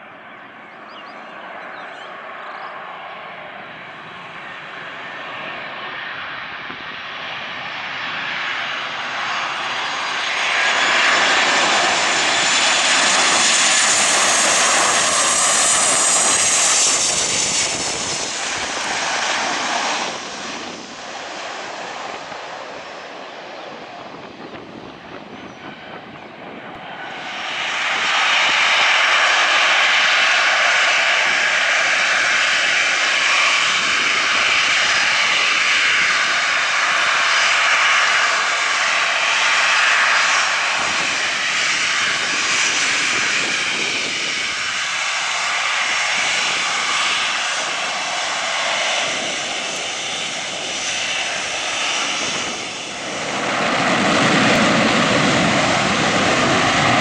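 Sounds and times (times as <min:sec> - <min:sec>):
aircraft engines at high power: 0:00.0 - 0:57.0.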